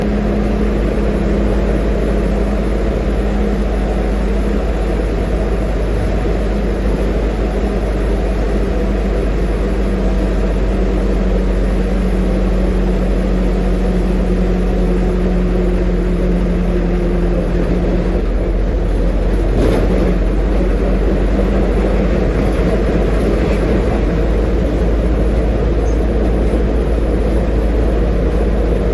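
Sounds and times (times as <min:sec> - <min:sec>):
bus engine droning: 0:00.0 - 0:28.9.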